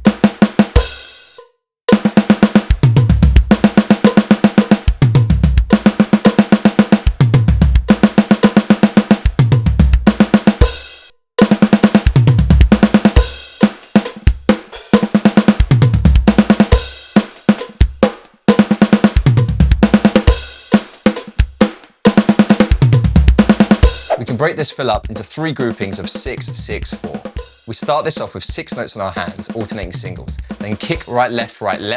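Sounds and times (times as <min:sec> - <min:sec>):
acoustic drum kit playing: 0:00.0 - 0:31.9.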